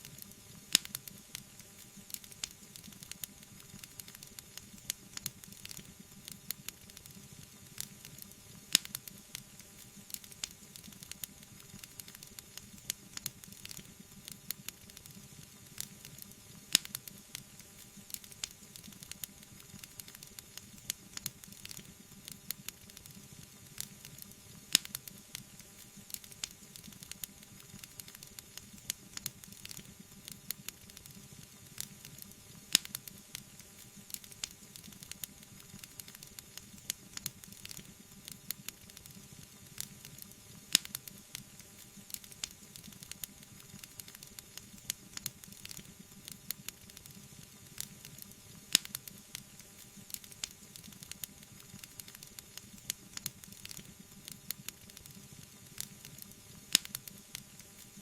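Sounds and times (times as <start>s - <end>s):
wood fire crackling and hissing: 0.0s - 58.0s.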